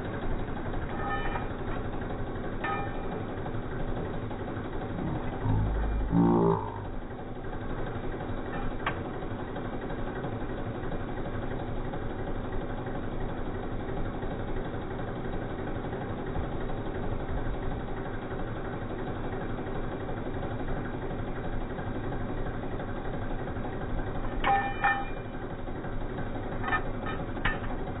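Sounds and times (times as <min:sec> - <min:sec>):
construction machinery engine running: 0:00.0 - 0:28.0.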